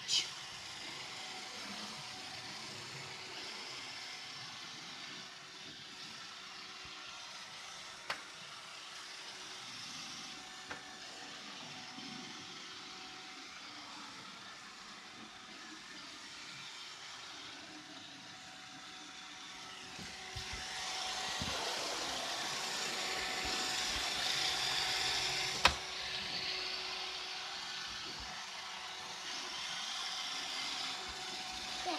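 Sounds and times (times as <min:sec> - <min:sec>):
robot vacuum motor and brush hum: 0:00.0 - 0:31.9.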